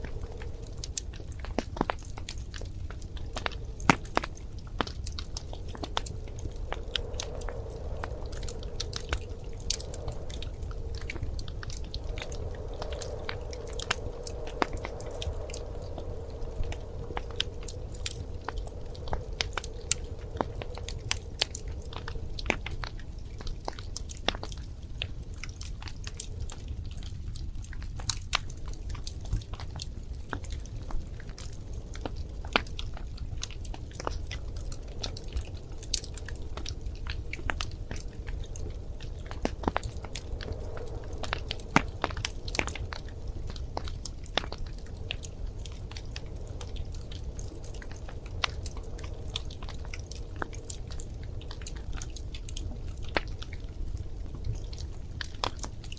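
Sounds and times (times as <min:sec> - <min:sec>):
low rumble: 0:00.0 - 0:55.8
faint hum: 0:00.0 - 0:55.9
wood fire crackling: 0:00.0 - 0:55.9.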